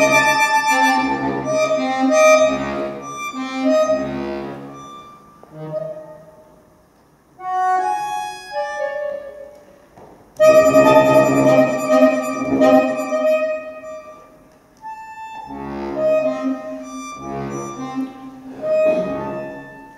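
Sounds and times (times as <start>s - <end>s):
solo accordion playing: 0.0s - 9.6s, 10.4s - 19.9s.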